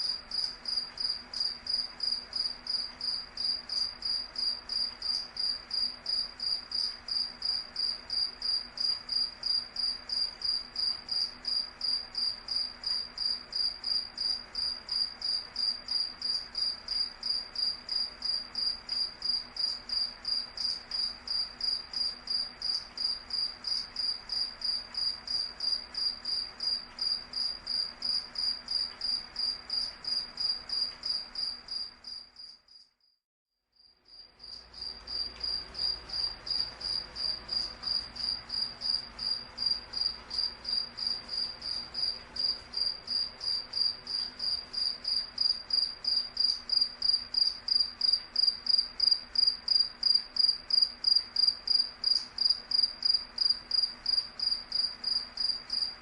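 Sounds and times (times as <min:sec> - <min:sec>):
cricket chirping: 0:00.0 - 0:33.2, 0:33.8 - 0:56.0.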